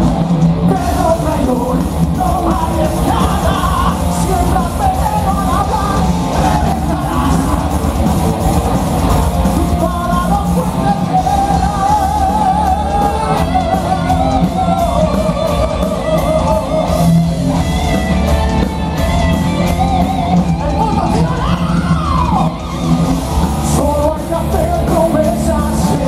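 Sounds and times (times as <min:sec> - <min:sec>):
bass guitar: 0:00.0 - 0:26.0
distorted electric guitars: 0:00.0 - 0:26.0
drums: 0:00.0 - 0:26.0
heavy metal band playing live: 0:00.0 - 0:26.0.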